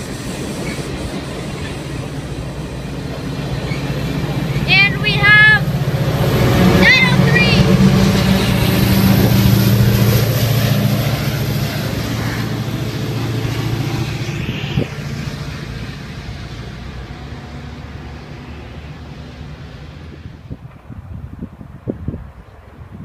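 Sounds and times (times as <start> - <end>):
diesel locomotive drone: 0.0 - 23.0
train cars rumbling: 0.0 - 23.0.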